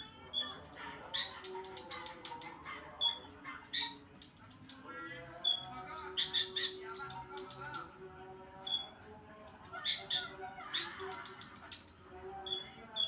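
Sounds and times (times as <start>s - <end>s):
bird chirping high squeaky song: 0.0s - 8.0s, 8.6s - 8.9s, 9.5s - 13.0s.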